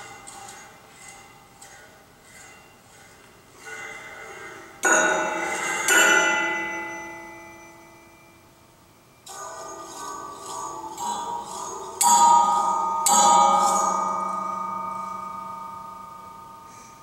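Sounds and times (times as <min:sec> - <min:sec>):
mallets striking metal rods: 0:00.0 - 0:08.4, 0:09.3 - 0:17.0.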